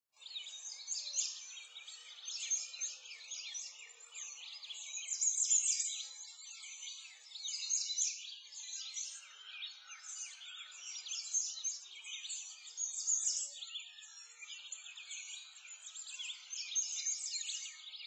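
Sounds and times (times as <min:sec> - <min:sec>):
songbirds chirping and trilling: 0:00.2 - 0:18.0.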